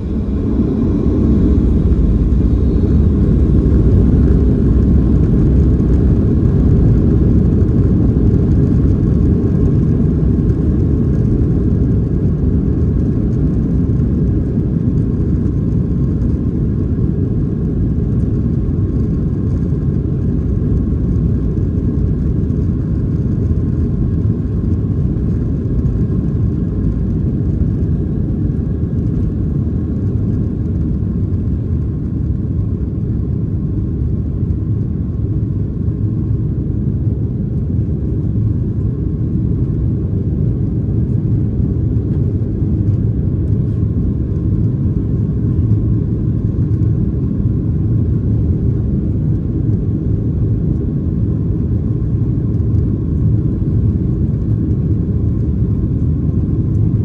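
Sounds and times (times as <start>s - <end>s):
faint engine whine: 0.0s - 57.0s
jet engine deep rumble: 0.0s - 57.0s.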